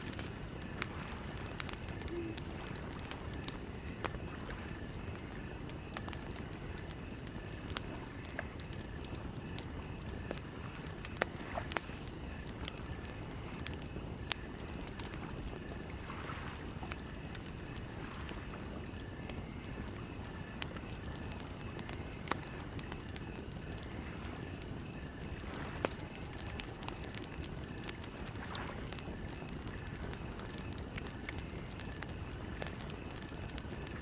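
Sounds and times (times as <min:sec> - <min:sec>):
campfire crackling and popping: 0:00.0 - 0:34.0
low wind rumble: 0:00.0 - 0:34.0.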